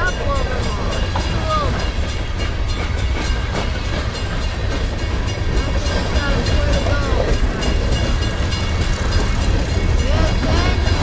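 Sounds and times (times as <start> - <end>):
freight train rumbling: 0.0 - 11.0
wheels clicking on rails: 0.0 - 11.0.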